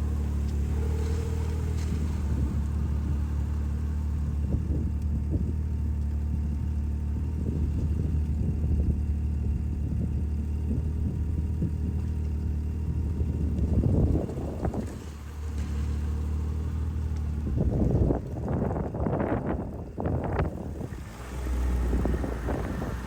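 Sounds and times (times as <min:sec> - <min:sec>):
snowmobile engine running: 0:00.0 - 0:23.0.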